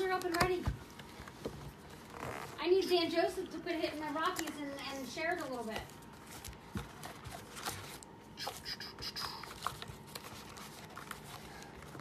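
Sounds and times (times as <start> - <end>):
cardboard and wrappers rustling: 0.0 - 12.0.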